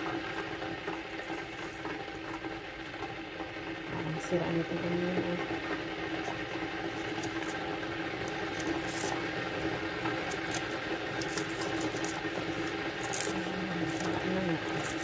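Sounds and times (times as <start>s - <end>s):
appliance hum and hiss: 0.0s - 15.0s.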